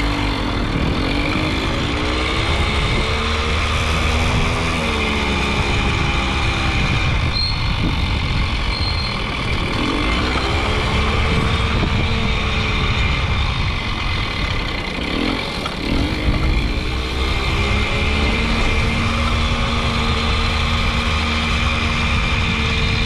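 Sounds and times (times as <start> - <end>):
moped engine running: 0.0 - 23.0.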